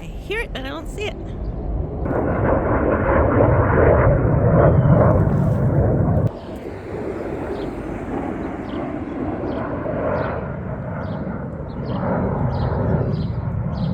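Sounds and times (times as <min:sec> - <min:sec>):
airplane engine drone: 0:00.0 - 0:13.9.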